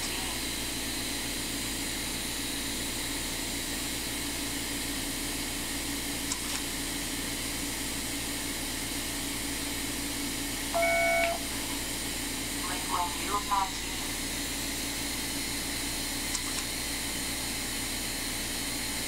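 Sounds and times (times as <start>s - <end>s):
machine fan whirring: 0.0s - 19.0s.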